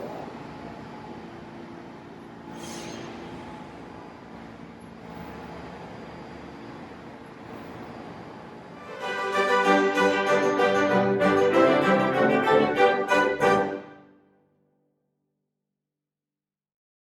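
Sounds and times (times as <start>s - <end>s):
subway train rumbling on rails: 0.0s - 13.9s.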